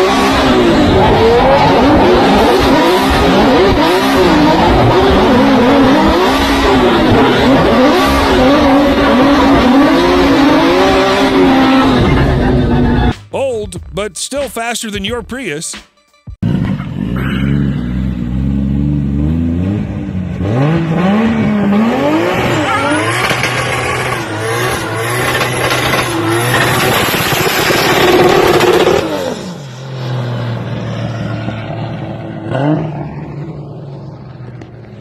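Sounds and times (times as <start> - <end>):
car engine revving: 0.0 - 13.1, 16.4 - 35.0.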